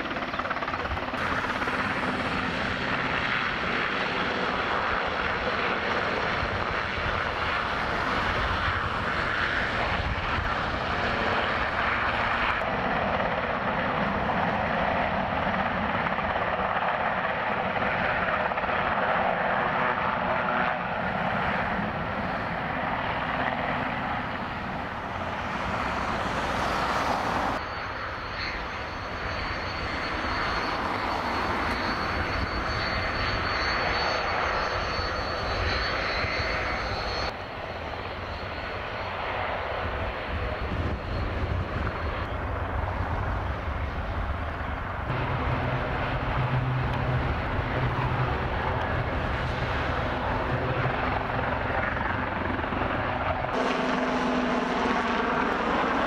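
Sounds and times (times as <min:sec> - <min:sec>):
helicopter engines and rotor: 0:00.0 - 0:56.0
jet turbofan whine: 0:00.0 - 0:56.0.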